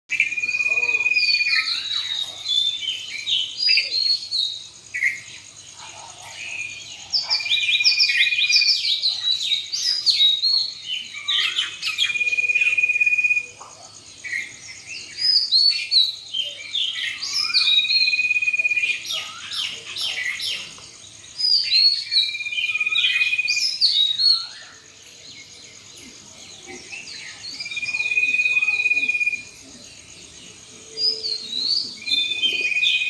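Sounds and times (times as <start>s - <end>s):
small birds chirping: 0.1s - 33.0s.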